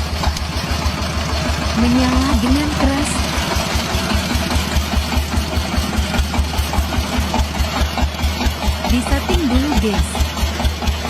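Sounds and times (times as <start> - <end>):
diesel engine driving water pump: 0.0 - 11.0.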